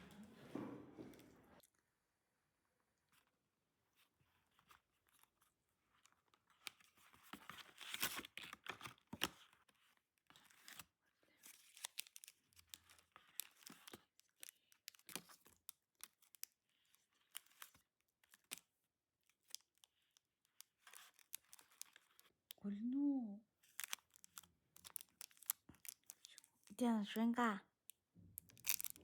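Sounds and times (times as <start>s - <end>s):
faint crinkling and tearing: 3.9s - 22.6s, 23.5s - 27.2s, 27.8s - 29.0s.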